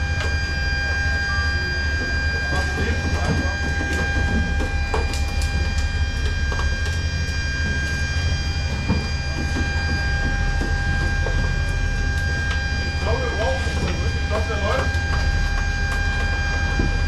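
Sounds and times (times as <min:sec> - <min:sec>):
constant high whine: 0:00.0 - 0:17.0
low machinery drone: 0:00.0 - 0:17.0.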